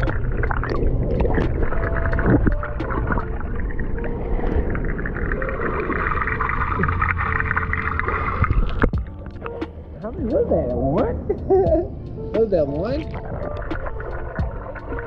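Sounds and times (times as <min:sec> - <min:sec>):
underwater clicks and bubbling: 0:00.0 - 0:09.7, 0:12.4 - 0:15.0
muffled underwater churning water: 0:00.0 - 0:15.0.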